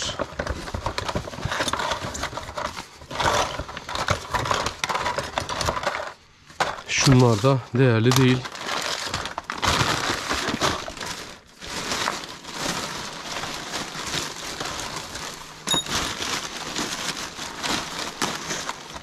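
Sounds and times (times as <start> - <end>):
plastic bag rustling: 0.0 - 19.0.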